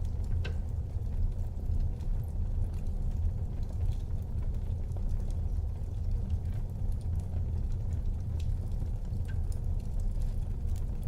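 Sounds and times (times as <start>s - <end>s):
fire crackling and popping: 0.0s - 11.0s
fire rumbling in fireplace: 0.0s - 11.0s.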